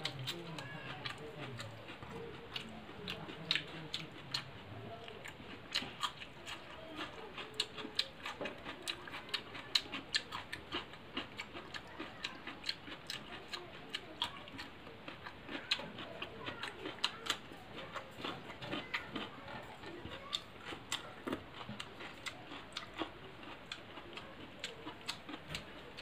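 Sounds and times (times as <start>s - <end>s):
person chewing and lip-smacking: 0.0s - 26.0s.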